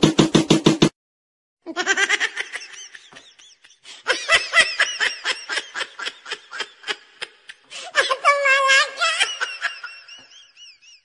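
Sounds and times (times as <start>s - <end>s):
person laughing: 1.7s - 11.0s.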